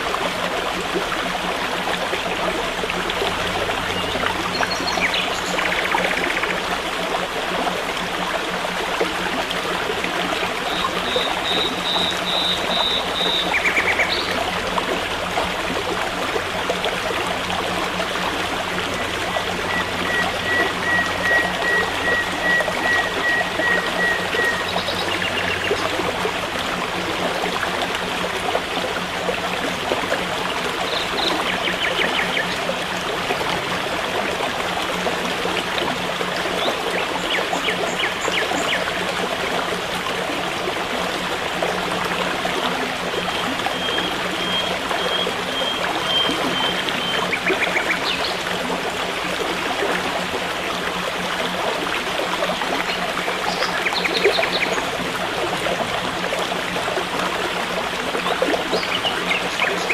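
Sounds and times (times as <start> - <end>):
forest stream babbling: 0.0 - 59.9.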